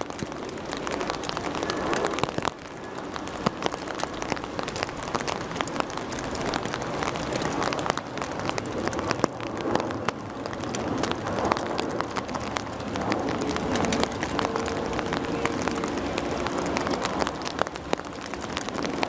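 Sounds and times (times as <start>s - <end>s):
rain rushing: 0.0s - 19.0s
raindrops ticking: 0.0s - 19.0s.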